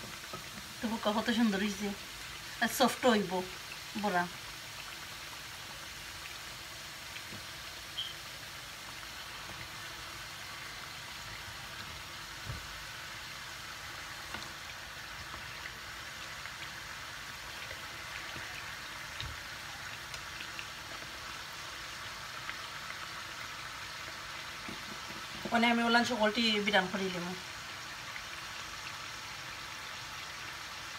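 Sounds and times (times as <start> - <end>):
deep-frying sizzle: 0.0 - 30.9.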